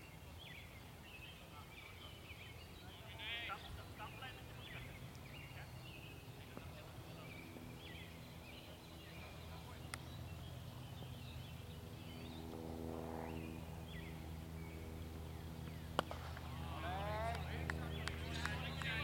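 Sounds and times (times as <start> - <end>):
birds chirping: 0.0 - 19.0
faint low hum: 0.0 - 19.0.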